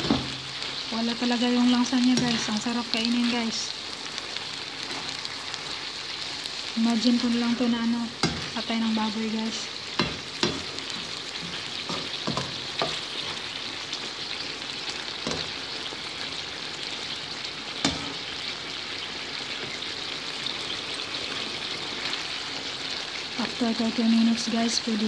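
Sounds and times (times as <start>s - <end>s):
meat sizzling in a wok: 0.0s - 25.0s.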